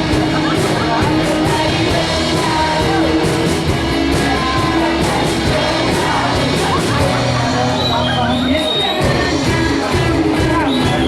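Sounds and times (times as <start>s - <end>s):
live rock band playing: 0.0s - 11.0s
person singing: 0.0s - 11.0s.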